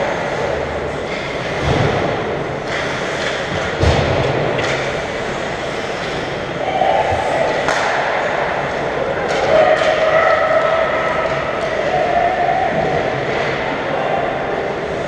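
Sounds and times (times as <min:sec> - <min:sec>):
rumbling din of hockey play: 0:00.0 - 0:15.0.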